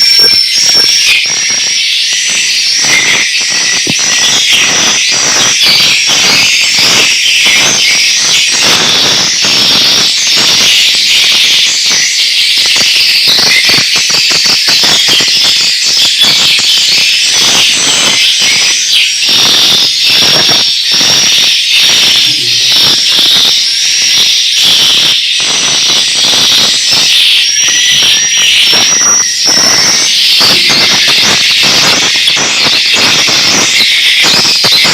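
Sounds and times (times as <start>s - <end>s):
swiftlets twittering: 0.0s - 34.9s.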